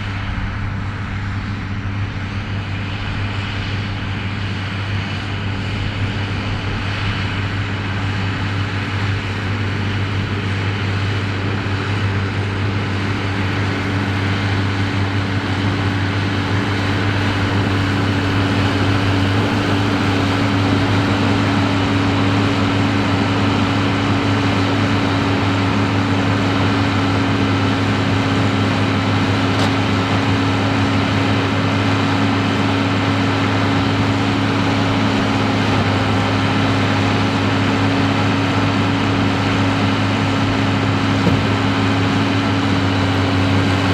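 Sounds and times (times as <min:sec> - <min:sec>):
round baler working: 0:00.0 - 0:43.9
tractor engine running: 0:00.0 - 0:43.9.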